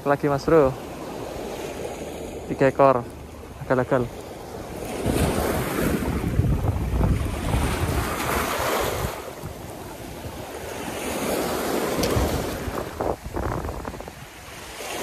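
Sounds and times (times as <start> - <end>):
waves washing over rocks: 0.0 - 15.0
wind buffeting microphone: 0.0 - 15.0.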